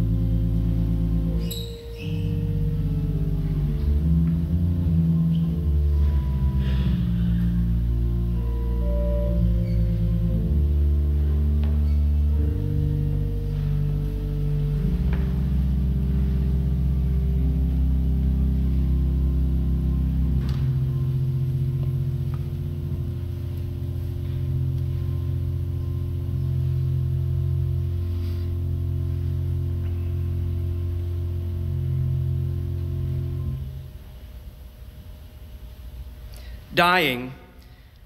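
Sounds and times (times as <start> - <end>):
church organ playing low chords: 0.0 - 37.9.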